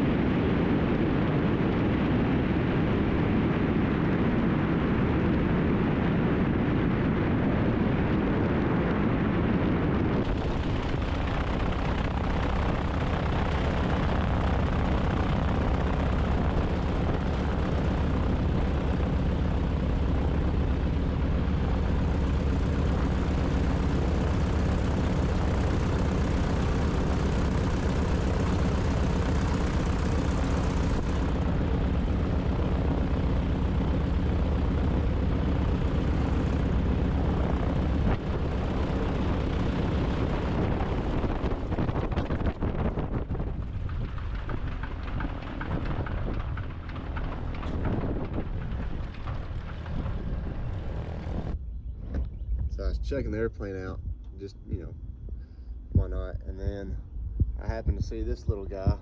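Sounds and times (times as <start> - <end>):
twin radial aircraft engines droning: 0.0 - 59.0.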